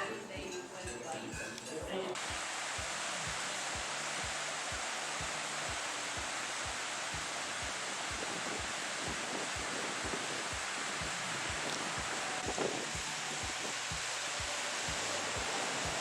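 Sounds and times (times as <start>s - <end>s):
river whitewater rushing: 2.2s - 16.0s.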